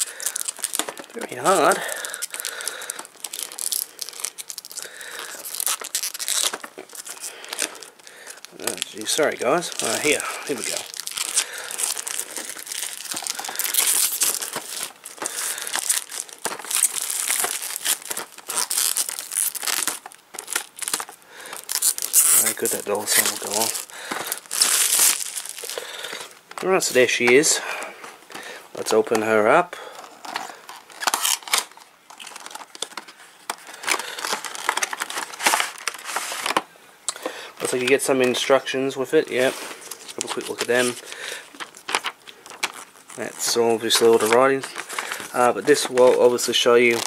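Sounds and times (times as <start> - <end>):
plastic packaging crinkling: 0.0 - 47.0.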